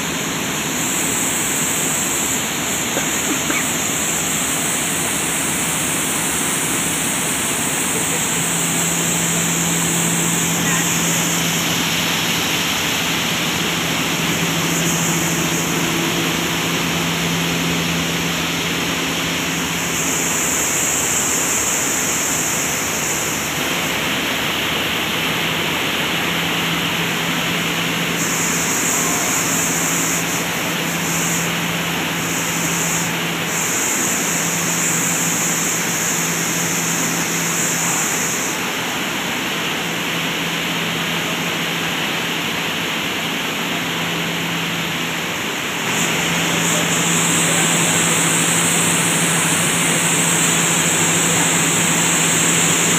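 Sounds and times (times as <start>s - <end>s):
motor hum: 0.0s - 38.9s, 43.9s - 52.9s.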